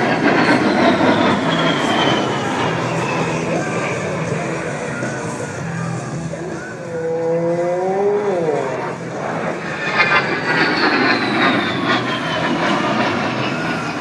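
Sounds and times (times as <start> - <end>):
high turbofan whine: 0.0 - 14.0
jet engine flying past: 0.0 - 14.0.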